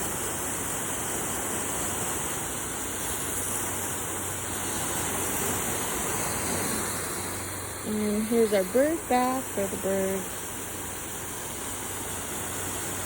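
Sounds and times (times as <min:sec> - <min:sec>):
garden hose spraying water: 0:00.0 - 0:13.0.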